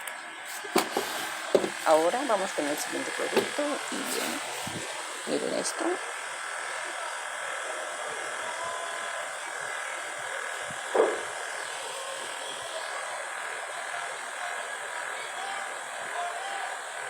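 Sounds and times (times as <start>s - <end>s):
electric hum: 0.0s - 17.0s.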